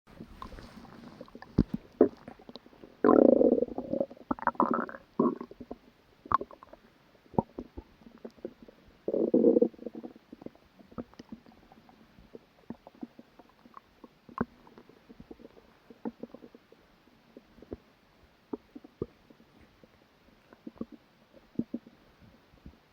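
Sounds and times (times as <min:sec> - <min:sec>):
stomach growling and gurgling: 0:00.1 - 0:22.9.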